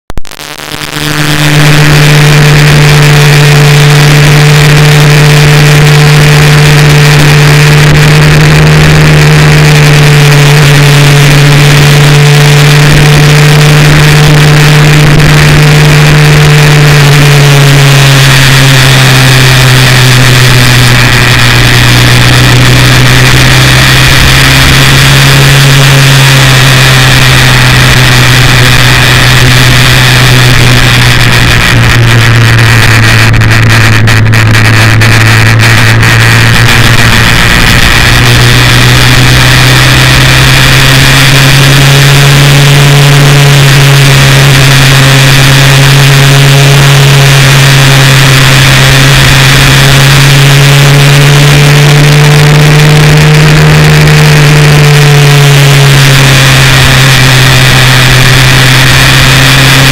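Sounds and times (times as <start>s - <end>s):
road noise: 0.0s - 59.9s
motorcycle engine cruising: 0.2s - 59.9s.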